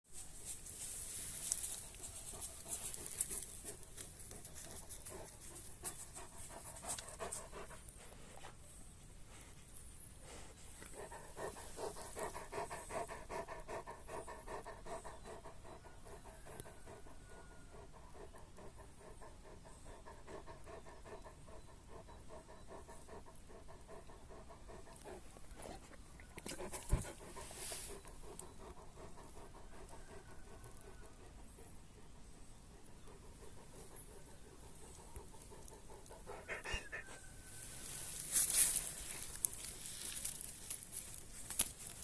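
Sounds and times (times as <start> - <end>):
dog panting: 1.4 - 37.3.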